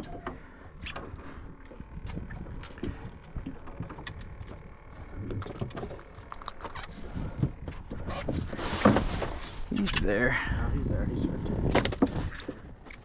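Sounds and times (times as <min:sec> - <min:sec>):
rumble of wind and water: 0:00.0 - 0:13.0.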